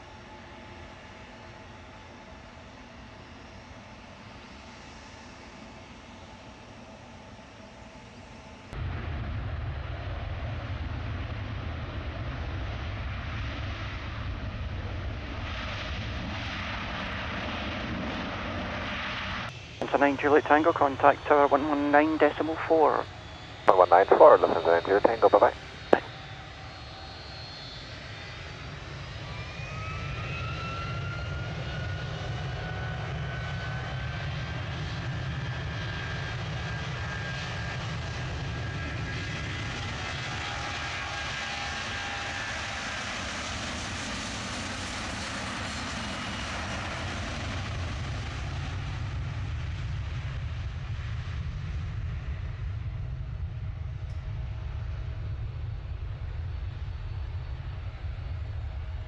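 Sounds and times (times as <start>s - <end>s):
jet engine whine: 0.0s - 59.0s
jet engine roar: 8.8s - 59.0s.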